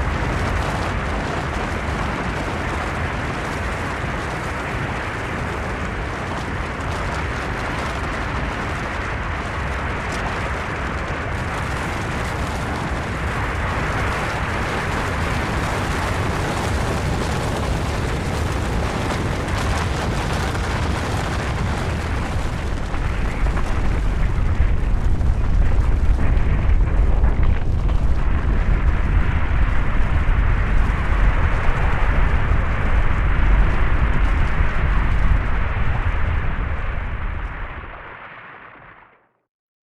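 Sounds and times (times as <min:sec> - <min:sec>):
avalanche rushing rumble: 0:00.0 - 0:38.9.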